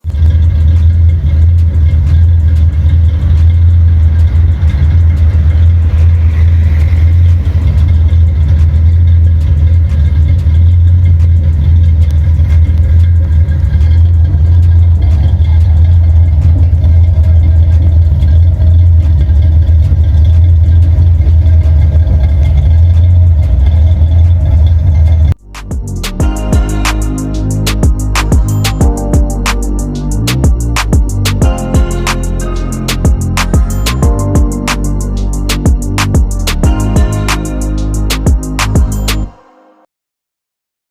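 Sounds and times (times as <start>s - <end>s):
car engine idling: 0.0s - 39.4s.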